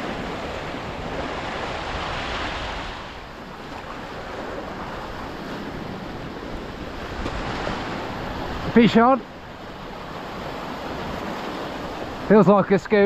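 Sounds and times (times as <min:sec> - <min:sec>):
wind buffeting microphone: 0:00.0 - 0:12.4
waves washing against rocks: 0:00.0 - 0:13.0.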